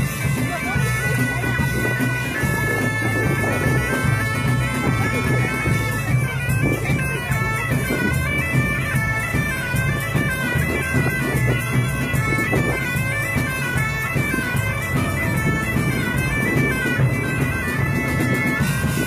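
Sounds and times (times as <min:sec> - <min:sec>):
bagpipe music: 0:00.0 - 0:19.0.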